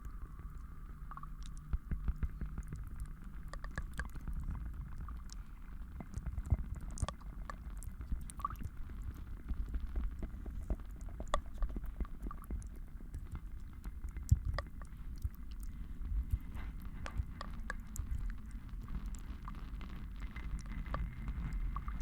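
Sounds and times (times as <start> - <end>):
small clicks and pops: 0.0 - 22.0
steady low rumble: 0.0 - 22.0.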